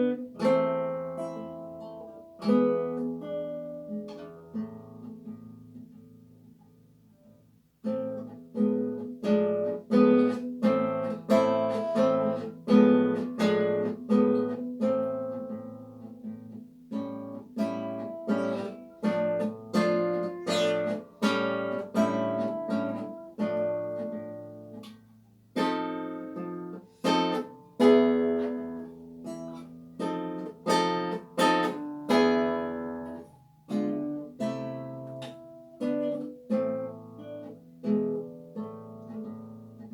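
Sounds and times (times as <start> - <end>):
solo classical guitar: 0.0 - 39.9.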